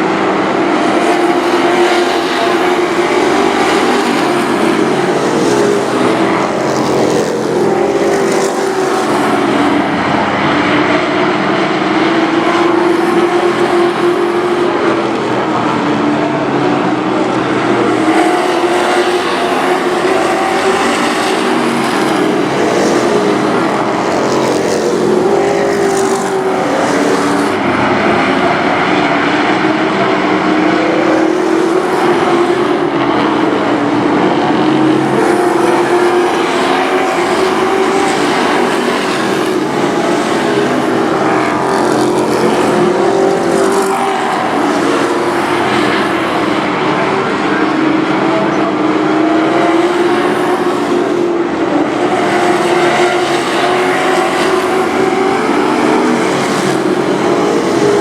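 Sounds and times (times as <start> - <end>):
race truck engines at high revs: 0.0 - 58.0.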